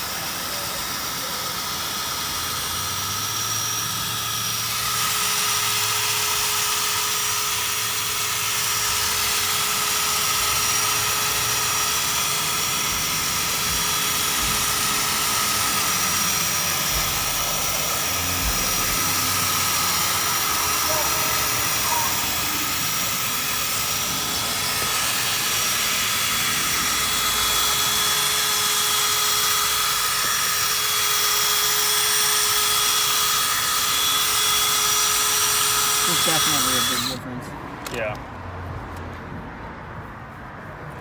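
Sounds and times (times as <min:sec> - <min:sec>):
power drill sanding plastic: 0:00.0 - 0:38.2.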